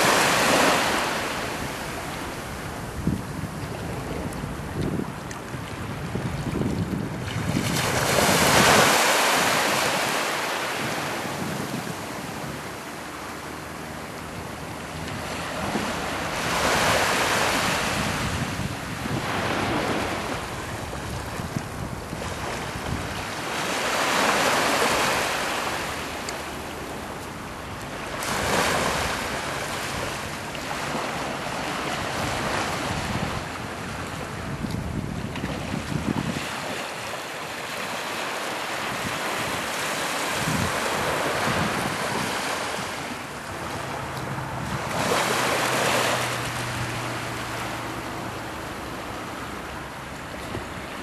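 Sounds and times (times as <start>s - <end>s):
small waves washing onto shore: 0.0s - 51.0s
wind rumbling on microphone: 0.0s - 51.0s.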